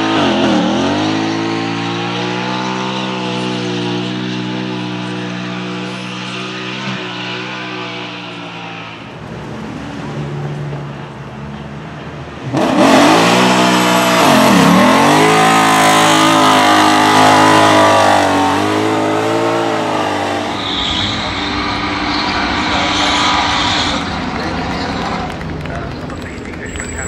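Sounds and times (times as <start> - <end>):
car engine revving hard: 0.0 - 10.1, 12.4 - 25.5.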